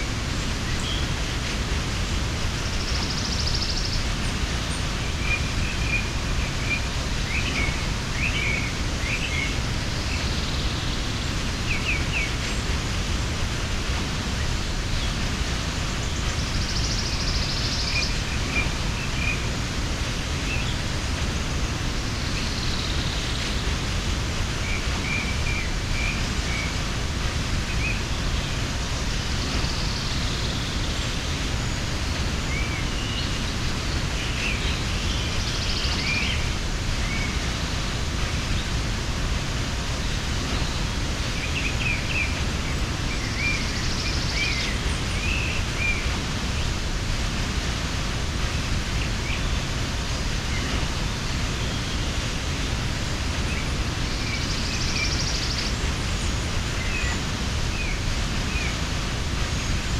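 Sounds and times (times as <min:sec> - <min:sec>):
small birds chirping: 0:00.0 - 0:59.9
waterfall rushing: 0:00.0 - 0:59.9.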